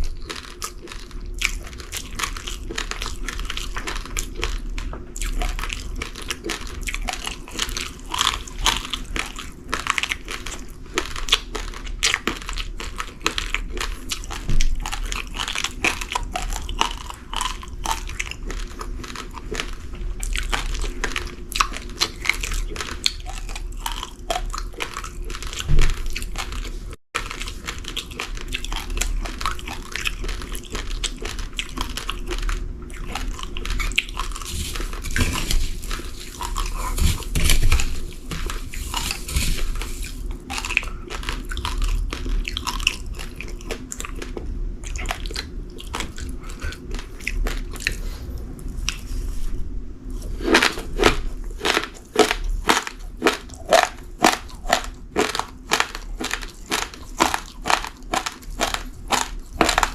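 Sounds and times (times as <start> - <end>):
chewing crunchy rice grains: 0.0 - 59.9.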